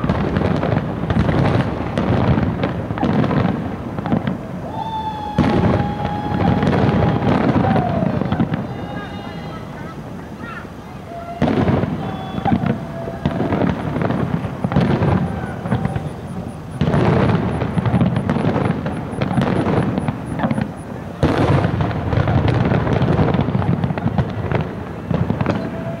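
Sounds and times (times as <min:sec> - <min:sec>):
fireworks bursting with echoes: 0:00.0 - 0:26.0.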